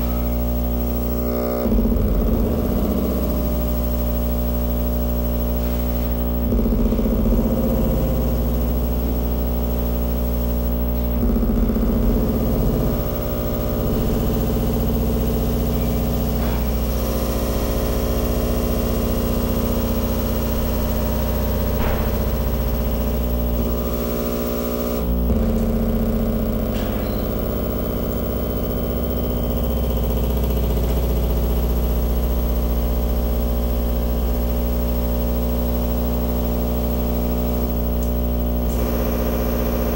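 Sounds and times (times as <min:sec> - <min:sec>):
buzzing electronic drone: 0:00.0 - 0:39.9.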